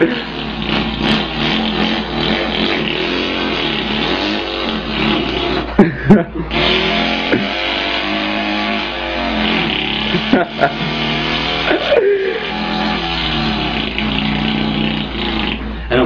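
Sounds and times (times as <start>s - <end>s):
man imitating engine with mouth: 0.0s - 16.0s.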